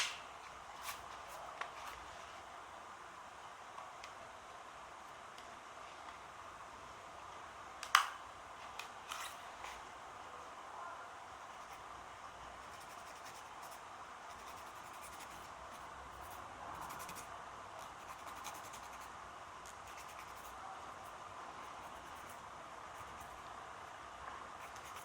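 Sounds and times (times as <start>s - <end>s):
room ambience hiss: 0.0s - 25.0s.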